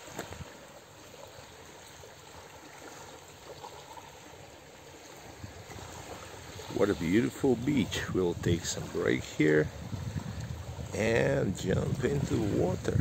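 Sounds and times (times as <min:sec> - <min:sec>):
small waves on pebble beach: 0:00.0 - 0:11.4.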